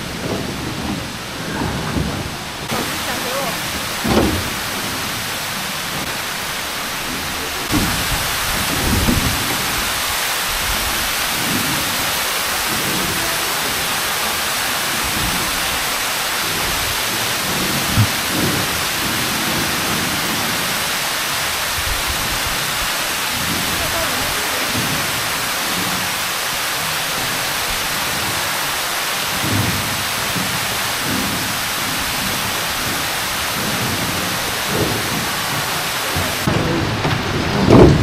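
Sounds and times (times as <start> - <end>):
low thumps and rumbles: 0.0 - 38.0
waterfall rushing: 0.0 - 38.0.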